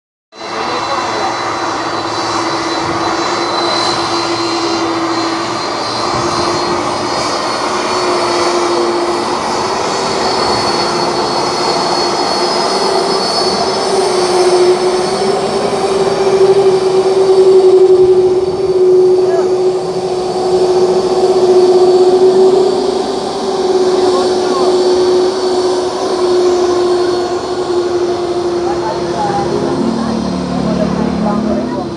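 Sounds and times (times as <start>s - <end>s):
jet engines whining: 0.4s - 31.9s.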